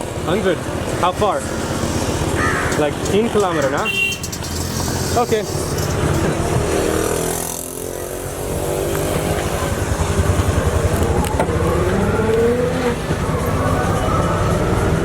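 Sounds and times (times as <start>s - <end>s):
engine running: 0.0s - 15.0s
street traffic: 0.0s - 15.0s.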